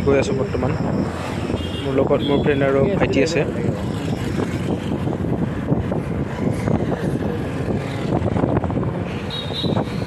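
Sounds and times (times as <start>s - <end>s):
road riding rumble: 0.0s - 10.0s
wind buffeting the microphone: 0.8s - 10.0s.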